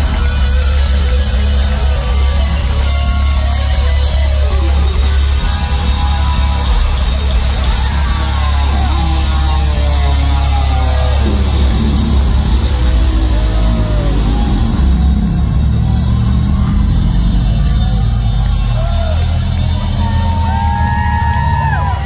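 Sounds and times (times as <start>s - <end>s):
crowd yelling: 0.0s - 22.0s
heavy metal band playing live: 0.0s - 22.0s.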